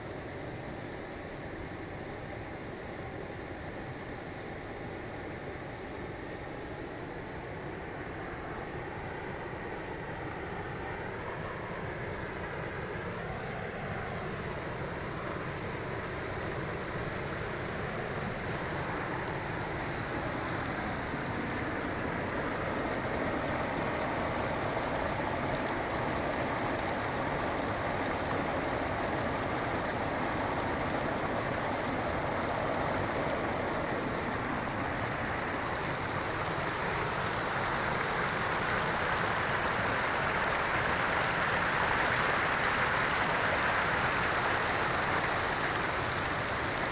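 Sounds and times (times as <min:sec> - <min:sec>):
waterfall and stream rushing: 0:04.7 - 0:46.9.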